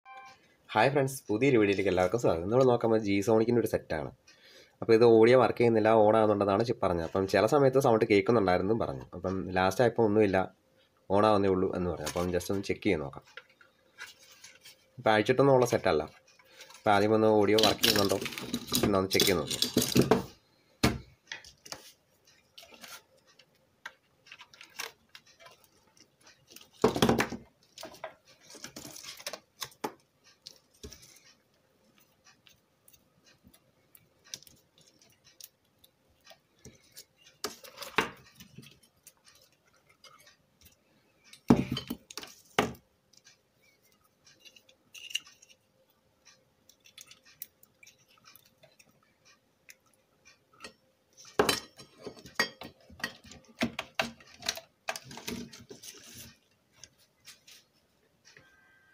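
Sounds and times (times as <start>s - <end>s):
faint steady hum: 0.1s - 58.9s.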